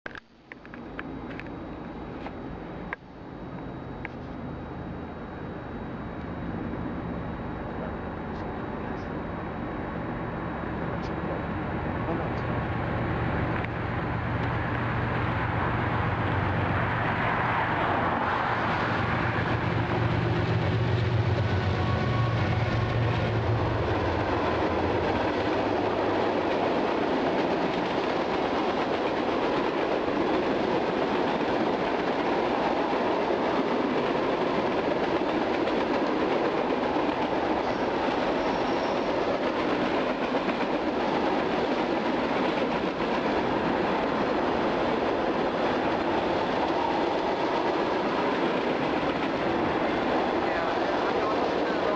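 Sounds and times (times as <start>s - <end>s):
locomotive engines humming: 0.1s - 51.9s.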